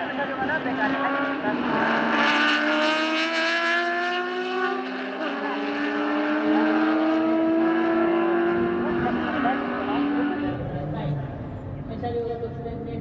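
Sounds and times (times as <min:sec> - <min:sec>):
race car engine accelerating: 0:00.4 - 0:12.6.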